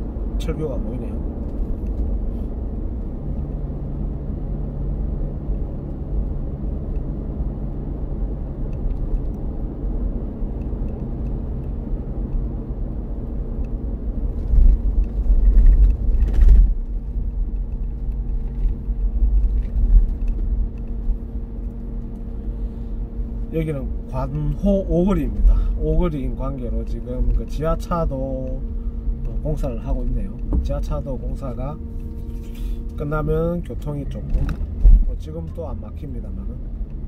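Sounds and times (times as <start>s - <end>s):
car interior road rumble: 0.0s - 37.0s
constant low hum: 0.0s - 37.0s.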